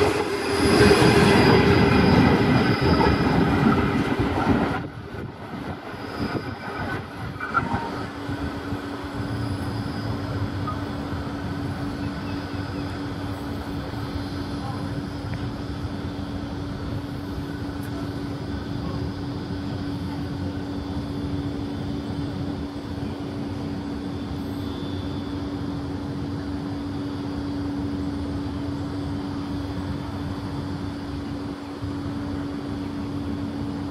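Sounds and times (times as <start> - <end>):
constant hum: 0.0 - 33.9
freight train rumbling: 0.0 - 33.9.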